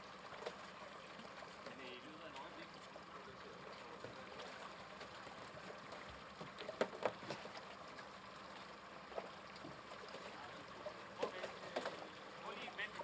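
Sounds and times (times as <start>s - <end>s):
harbour background: 0.0s - 13.0s.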